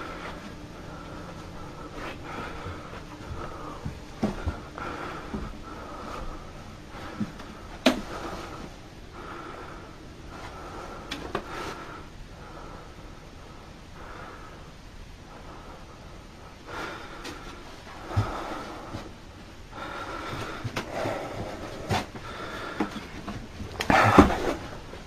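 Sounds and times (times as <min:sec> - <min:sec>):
uneven breathing: 0:00.0 - 0:25.0.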